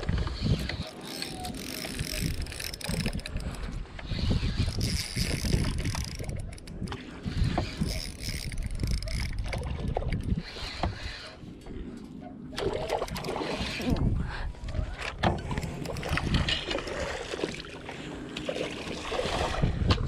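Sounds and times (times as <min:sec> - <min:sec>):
water lapping against boat hull: 0:00.0 - 0:11.6, 0:12.5 - 0:20.0
wind buffeting microphone: 0:00.0 - 0:11.9, 0:12.8 - 0:17.0, 0:19.0 - 0:20.0.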